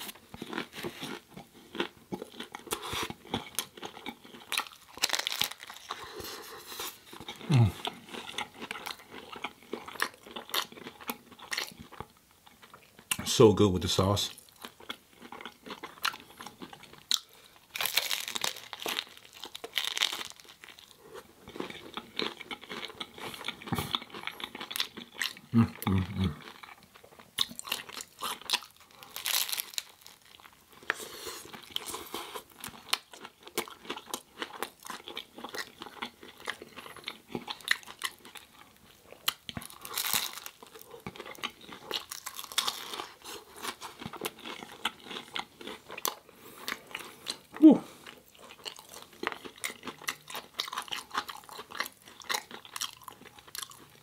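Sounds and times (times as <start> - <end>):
person chewing crunchy food: 0.0 - 13.4, 14.3 - 54.0.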